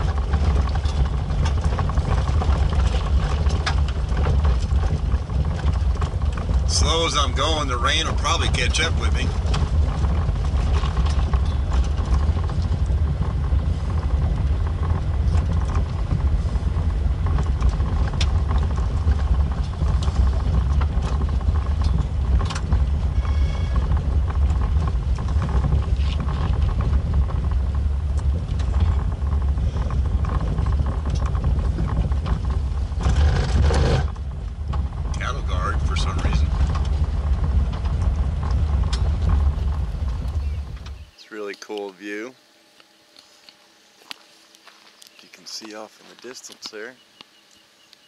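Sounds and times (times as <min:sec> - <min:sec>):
small clicks and rattles: 0:00.0 - 0:41.0
clatter: 0:00.0 - 0:41.1
engine and tyres rumbling: 0:00.0 - 0:48.0.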